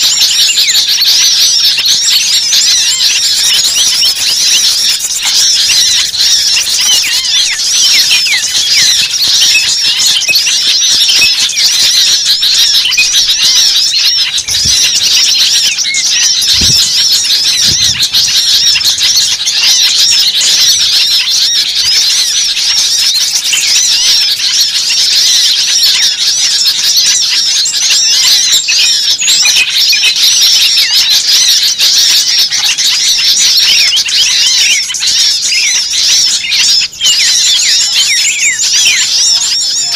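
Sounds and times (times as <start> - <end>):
small birds chattering and chirping: 0.0 - 39.9.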